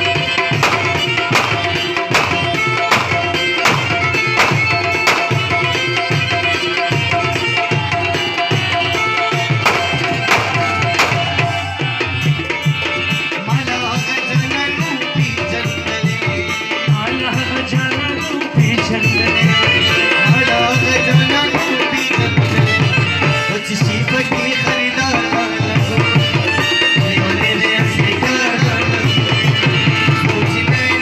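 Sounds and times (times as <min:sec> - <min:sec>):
rubab and harmonium playing: 0:00.0 - 0:31.0
tabla beat: 0:00.0 - 0:31.0.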